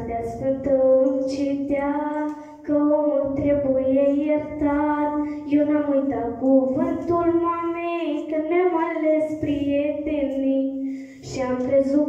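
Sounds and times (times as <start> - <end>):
girl singing into a microphone: 0.0 - 12.0.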